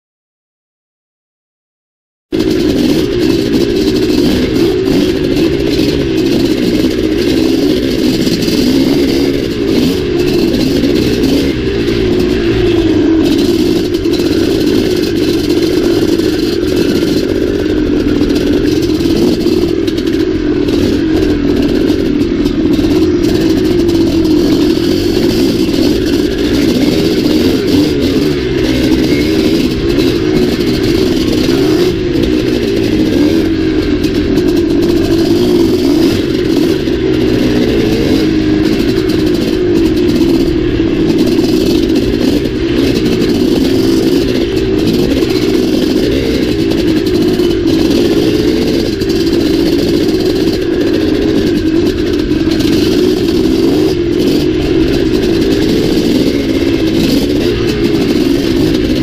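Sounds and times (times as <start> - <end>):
dirt bike engine revving: 2.3 - 59.0.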